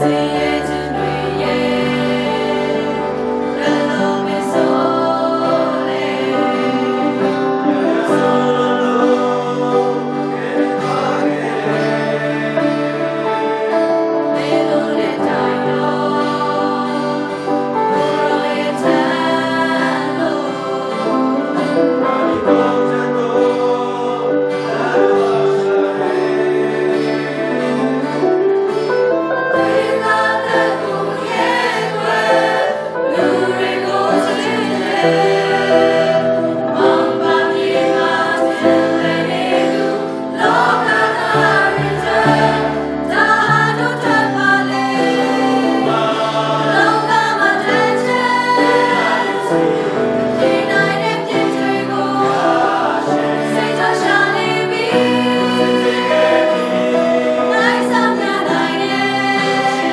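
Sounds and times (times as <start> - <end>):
group singing a hymn: 0.0 - 59.9
instrumental accompaniment: 0.0 - 59.9.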